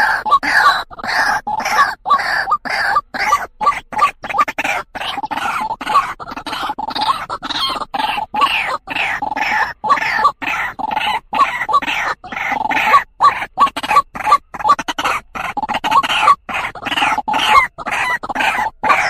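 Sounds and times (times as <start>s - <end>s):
bird harsh repeated calls: 0.0s - 19.0s.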